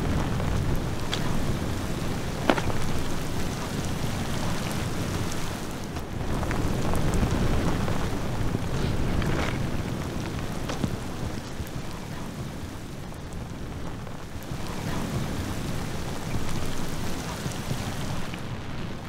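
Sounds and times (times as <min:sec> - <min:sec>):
gusting wind: 0:00.0 - 0:19.0
rain: 0:00.0 - 0:19.0.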